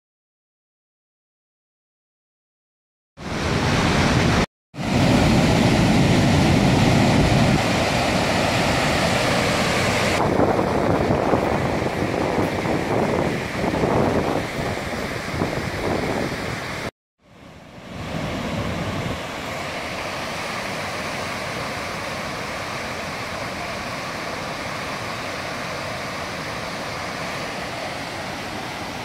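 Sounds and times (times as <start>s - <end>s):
large waterfall rushing: 3.2s - 29.0s.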